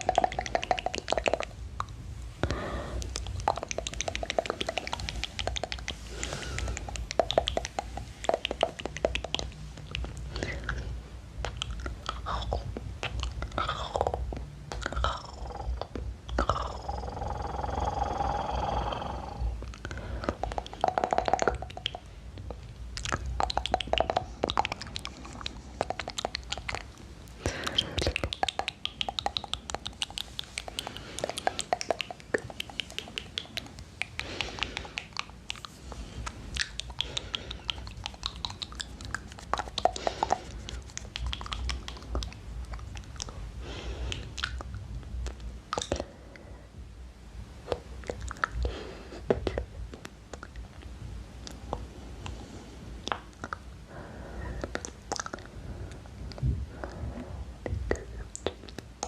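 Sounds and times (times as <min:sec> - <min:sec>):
wet mouth clicks and smacks: 0:00.0 - 0:10.8, 0:11.4 - 0:17.3, 0:19.6 - 0:43.4, 0:44.0 - 0:46.5, 0:47.7 - 0:52.4, 0:53.0 - 0:53.7, 0:54.5 - 0:59.0.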